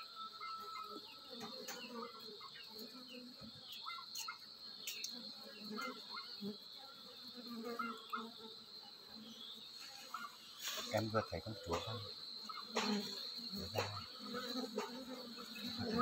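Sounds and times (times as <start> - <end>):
bees buzzing: 0.0 - 16.0
high insect trill: 0.0 - 16.0.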